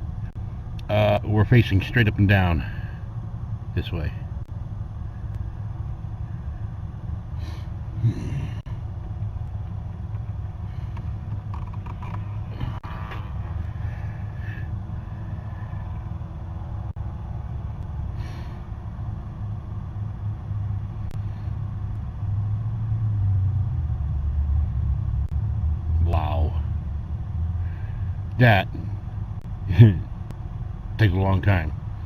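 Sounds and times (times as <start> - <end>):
car engine rumbling: 0.0 - 32.0.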